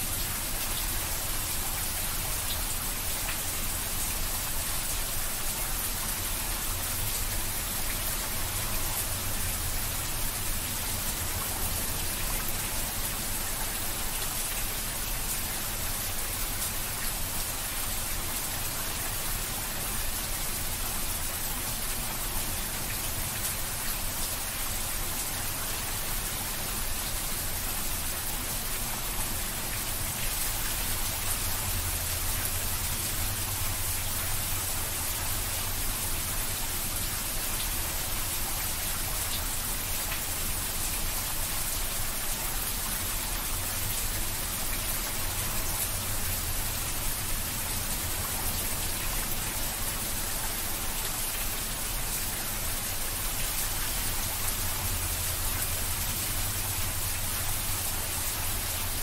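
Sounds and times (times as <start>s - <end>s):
heavy rain on concrete roof: 0.0s - 59.0s.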